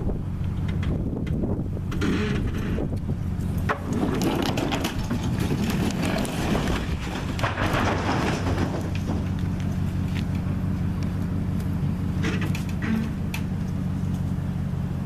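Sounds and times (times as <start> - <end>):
vehicle engine running: 0.0 - 15.0
wooden timbers cracking and creaking: 0.4 - 14.4.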